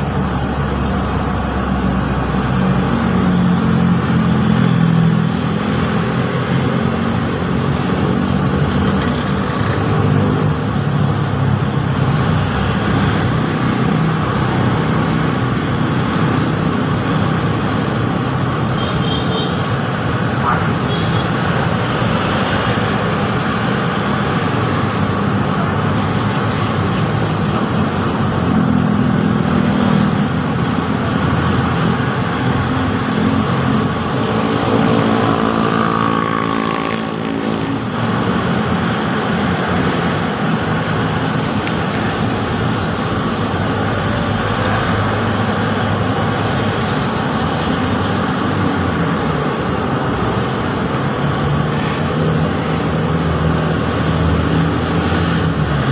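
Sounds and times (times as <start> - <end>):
road traffic passing: 0.0 - 55.9.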